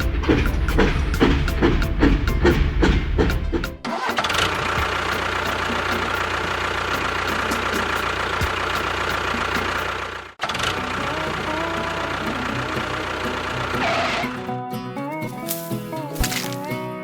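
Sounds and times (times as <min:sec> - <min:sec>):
engine humming steadily: 0:00.0 - 0:14.4.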